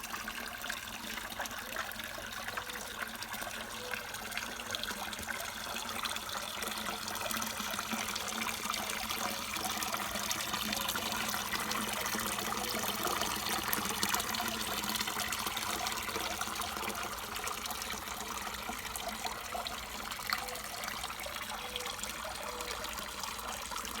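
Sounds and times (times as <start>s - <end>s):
water trickling into pond: 0.0s - 24.0s.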